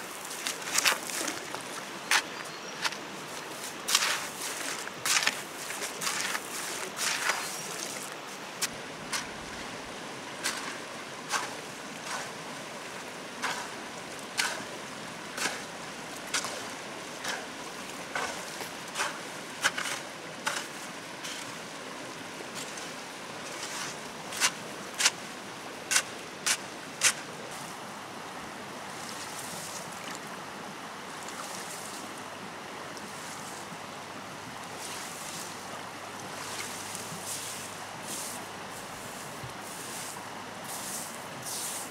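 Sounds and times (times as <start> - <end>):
stream flowing: 0.0 - 41.9.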